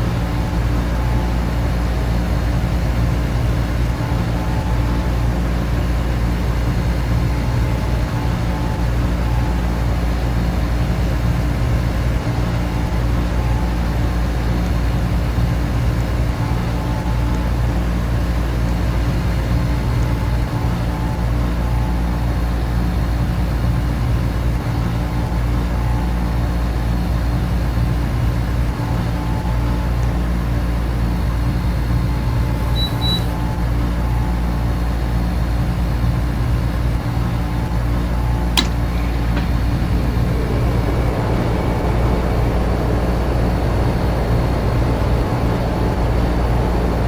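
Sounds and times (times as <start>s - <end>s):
air conditioner and fans humming: 0.0s - 47.0s.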